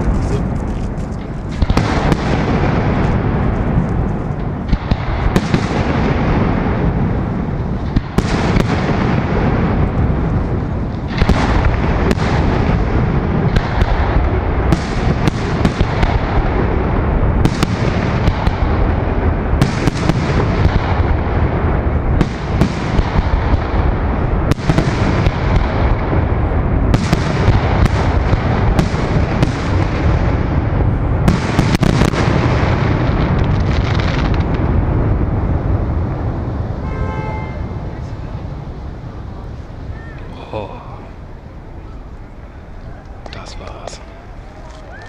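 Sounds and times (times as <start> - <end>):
firework shells booming: 0.0 - 37.8
firework cracks: 0.0 - 41.2, 42.8 - 45.0.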